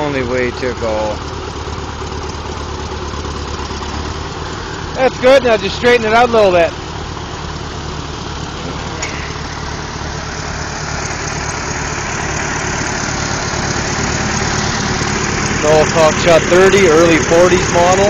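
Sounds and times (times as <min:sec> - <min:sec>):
tractor engine running at low speed: 0:00.0 - 0:18.0.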